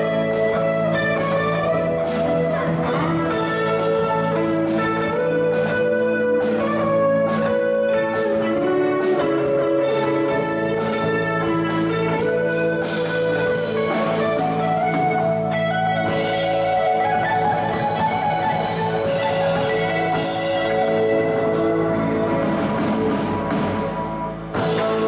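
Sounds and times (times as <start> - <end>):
drum kit: 0.0 - 25.0
electric bass: 0.0 - 25.0
electric guitar: 0.0 - 25.0
keyboard: 0.0 - 25.0.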